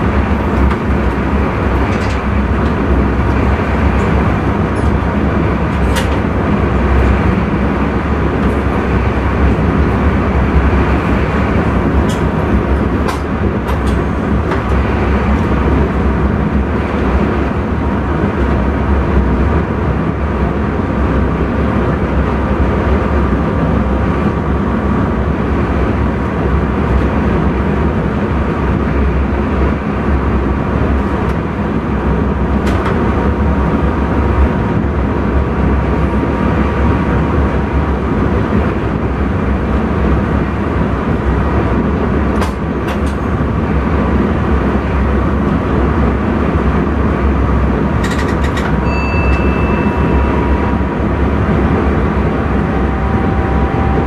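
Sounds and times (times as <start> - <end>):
train rumble from cab: 0.0 - 54.0.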